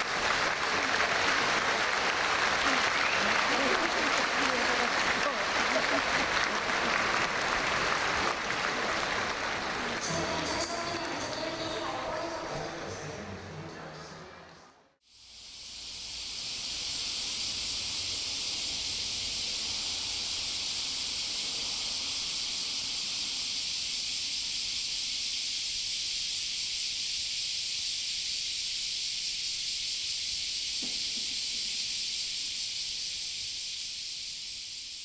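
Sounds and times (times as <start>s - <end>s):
steady hiss: 0.0s - 12.4s, 15.0s - 35.0s.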